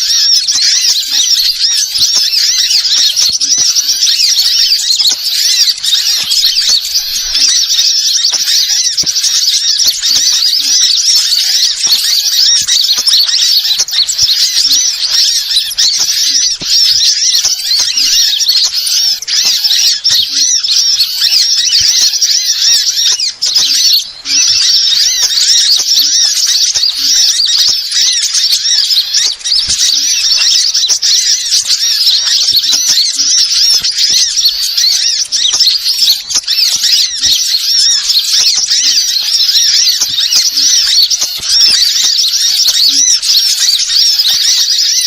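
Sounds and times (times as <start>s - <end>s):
songbirds chirping and warbling: 0.0s - 45.0s.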